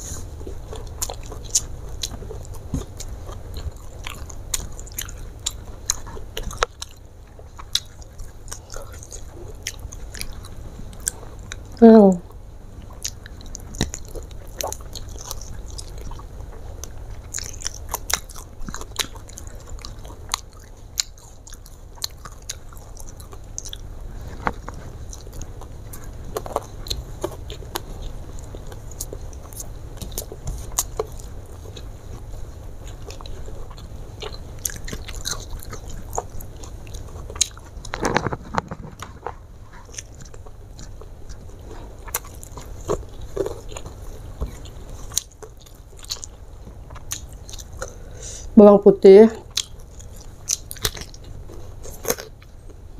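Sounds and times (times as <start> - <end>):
person chewing and crunching food: 0.0 - 48.5, 49.3 - 52.9.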